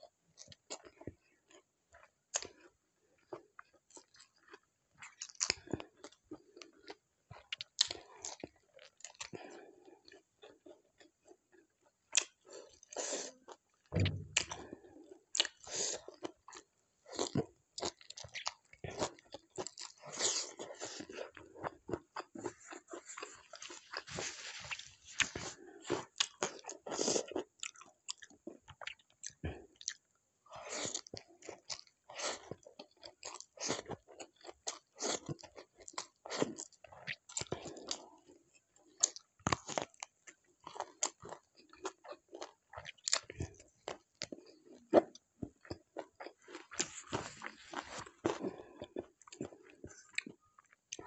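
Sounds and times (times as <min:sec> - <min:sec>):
person chewing food: 0:00.4 - 0:51.0.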